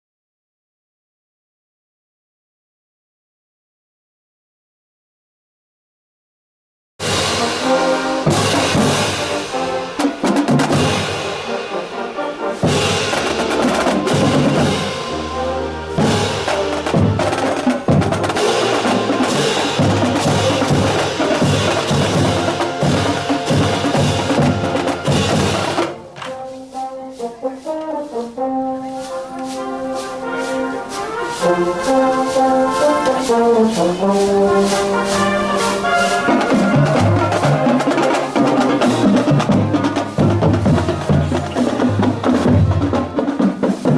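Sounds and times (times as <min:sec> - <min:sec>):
brass band music: 0:07.0 - 0:43.9.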